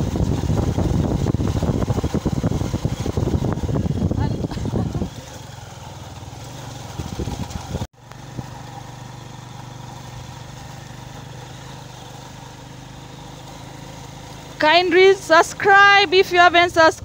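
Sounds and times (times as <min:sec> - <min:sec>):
rush of air and road noise: 0:00.0 - 0:14.6
motorcycle engine running: 0:00.0 - 0:17.0.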